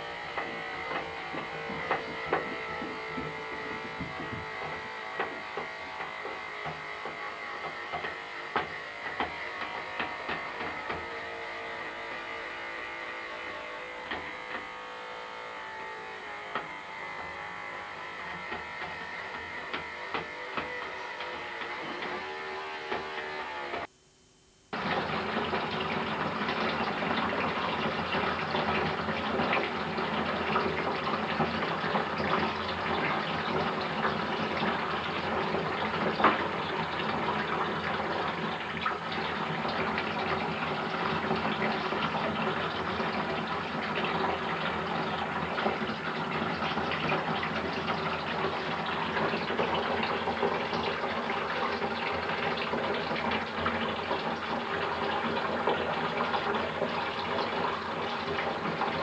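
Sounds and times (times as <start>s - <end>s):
water running from a tap: 0.0s - 23.9s, 24.7s - 59.0s.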